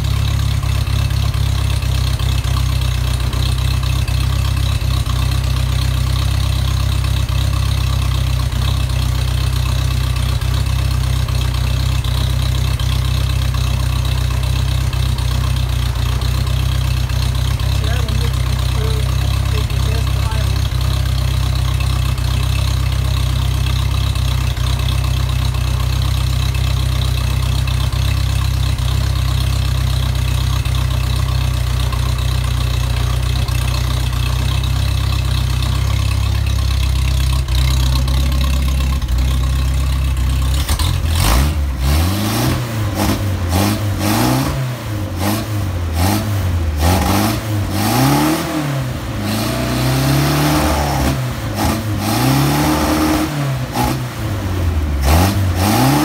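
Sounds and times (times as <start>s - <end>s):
car engine running and revving: 0.0s - 56.0s.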